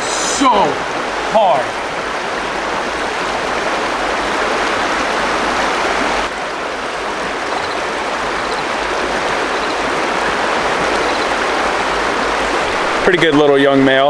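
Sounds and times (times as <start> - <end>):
river water rushing over rocks: 0.0 - 13.1.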